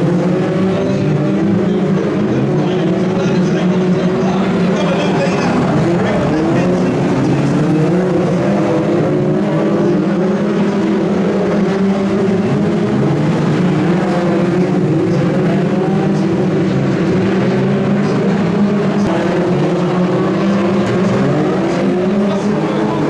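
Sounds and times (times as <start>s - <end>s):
stock car engines revving: 0.0s - 23.0s.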